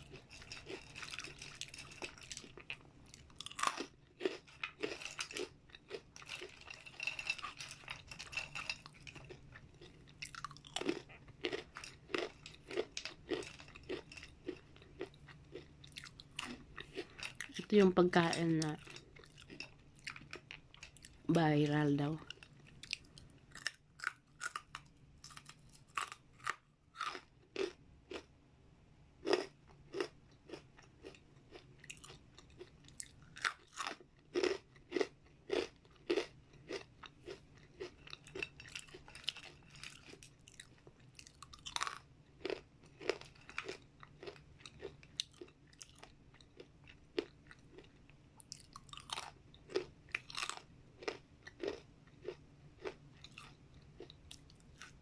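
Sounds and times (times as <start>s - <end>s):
person chewing crunchy chips: 0.0s - 21.3s, 22.2s - 28.3s, 29.2s - 55.0s.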